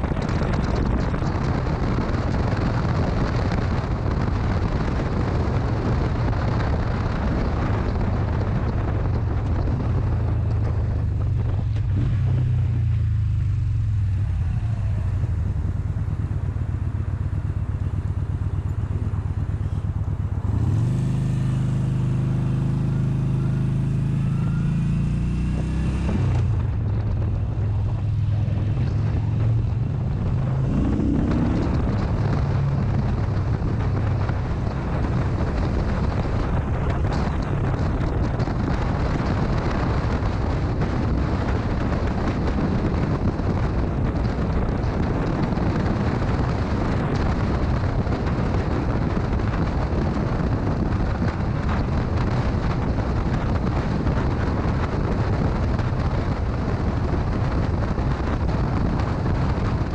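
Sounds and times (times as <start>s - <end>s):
motorcycle engine: 0.0s - 59.9s
wind buffeting microphone: 0.0s - 59.9s.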